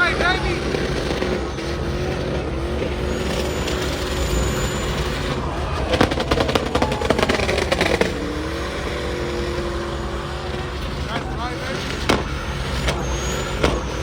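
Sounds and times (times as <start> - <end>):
car engine running: 0.0 - 14.0
rapid crackling pops: 0.0 - 14.0.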